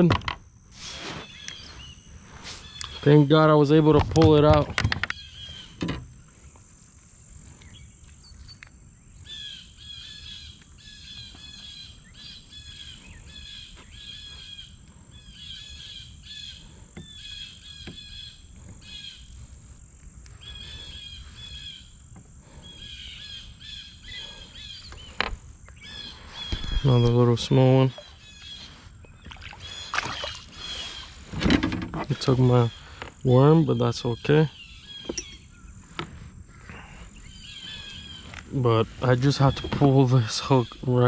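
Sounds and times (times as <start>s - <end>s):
outdoor background noise: 0.0s - 41.0s
songbird chirping: 0.0s - 41.0s.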